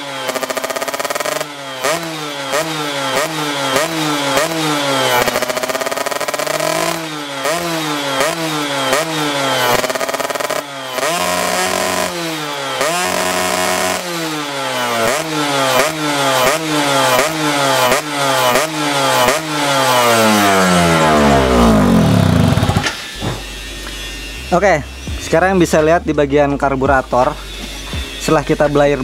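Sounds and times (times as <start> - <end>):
two-stroke engine revving: 0.0 - 29.0.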